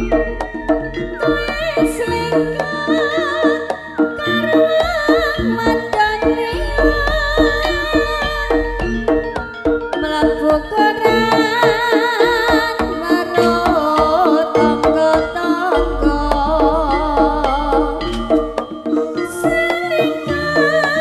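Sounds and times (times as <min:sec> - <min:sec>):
gong and metallophone tones: 0:00.0 - 0:21.0
wavering melody line: 0:00.0 - 0:21.0.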